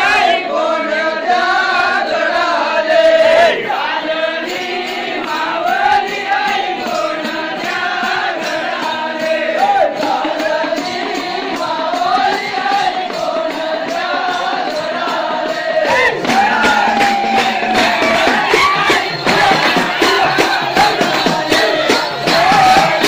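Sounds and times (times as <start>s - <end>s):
men chanting a devotional song: 0.0s - 23.0s.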